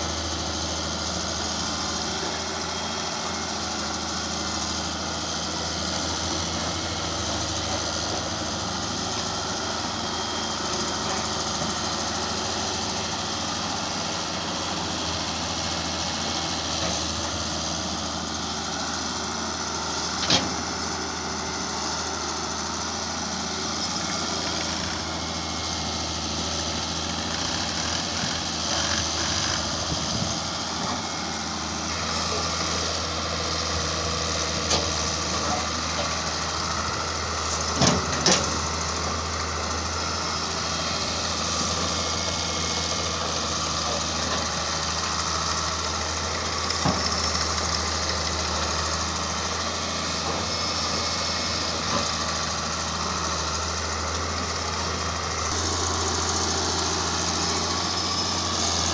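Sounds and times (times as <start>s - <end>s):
heavy machinery engine idling: 0.0s - 58.9s.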